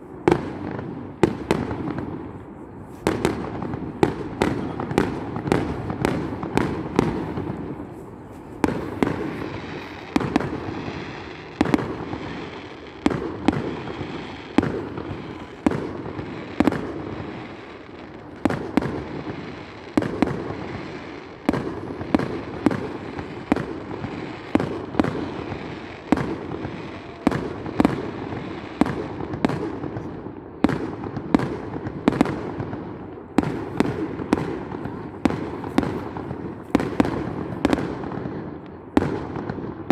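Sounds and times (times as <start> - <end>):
fireworks crackling: 0.0 - 39.9.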